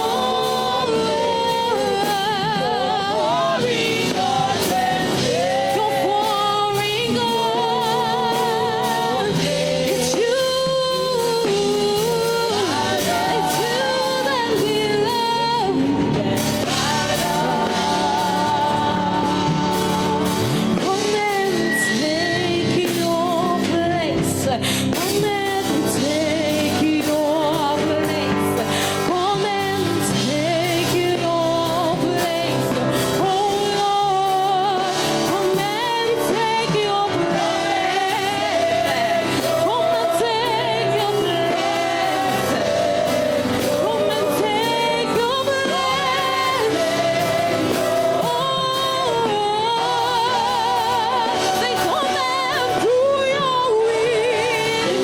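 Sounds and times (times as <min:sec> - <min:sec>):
band playing sustained chords: 0:00.0 - 0:55.0
person singing with vibrato: 0:00.0 - 0:55.0.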